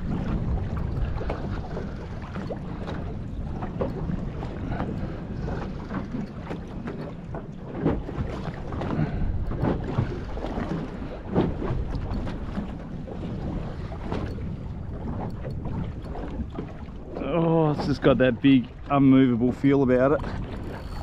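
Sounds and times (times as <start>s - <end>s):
knocks and splashes: 0.0s - 21.0s
waves slapping against boat: 0.0s - 21.0s
wind buffeting microphone: 0.0s - 21.0s.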